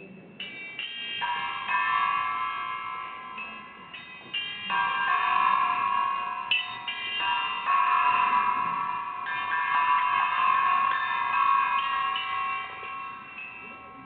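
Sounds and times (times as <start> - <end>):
metal chimes ringing: 0.3 - 14.0.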